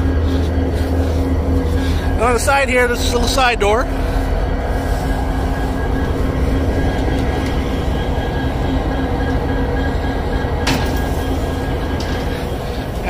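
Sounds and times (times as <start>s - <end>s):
diesel locomotive engines idling: 0.0s - 13.0s.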